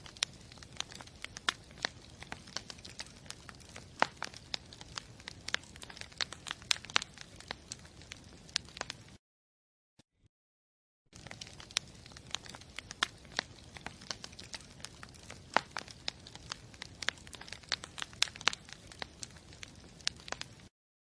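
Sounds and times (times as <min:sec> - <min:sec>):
campfire crackling and popping: 0:00.0 - 0:09.2, 0:11.1 - 0:20.7.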